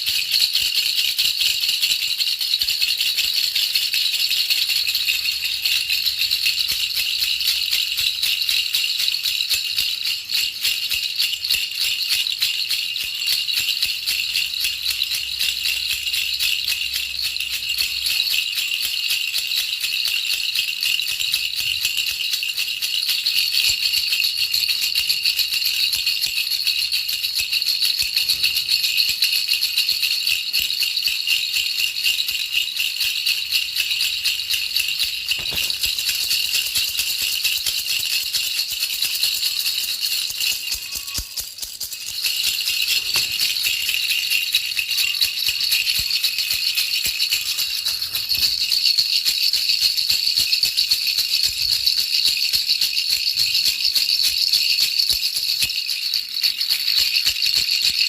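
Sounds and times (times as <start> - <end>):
baby rattle shaken: 0.0 - 58.0.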